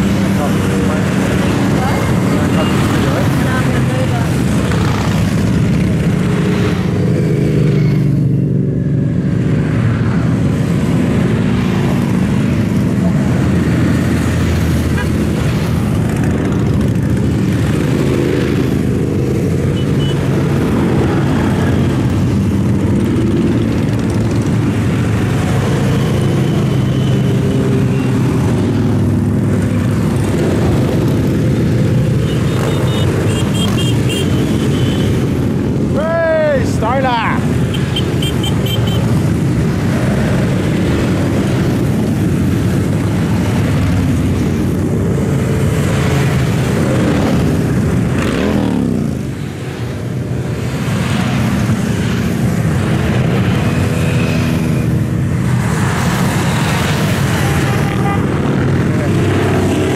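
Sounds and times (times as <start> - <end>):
motorcycles riding past: 0.0 - 59.9.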